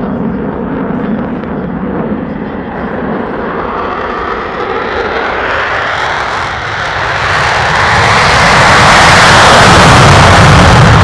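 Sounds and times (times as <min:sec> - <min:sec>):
jet engines at full afterburner: 0:00.0 - 0:11.0.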